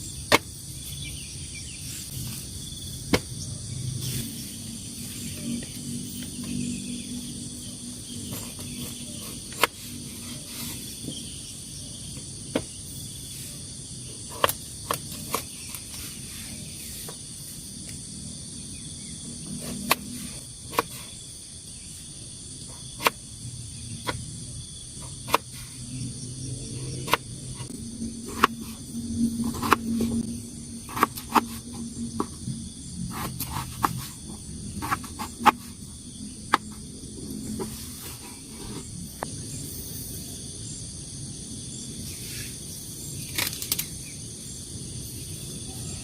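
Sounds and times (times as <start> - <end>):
crickets and night insects chirping: 0.0 - 46.0.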